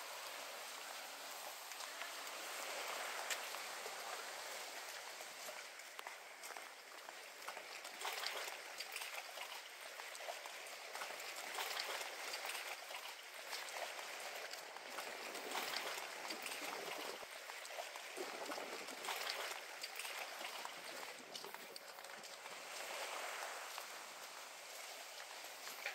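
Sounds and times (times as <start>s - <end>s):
water lapping around pilings: 0.0s - 25.9s.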